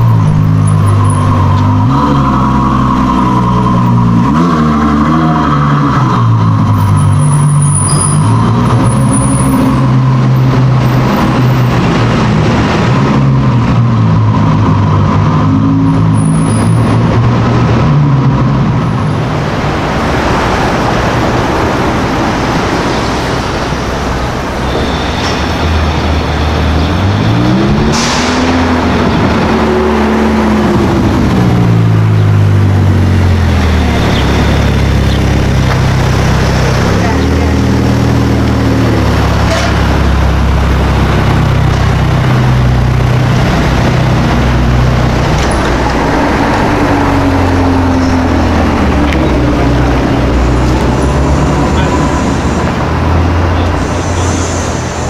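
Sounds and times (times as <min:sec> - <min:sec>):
car engine in parking garage: 0:00.0 - 0:55.0
street traffic: 0:00.0 - 0:55.0.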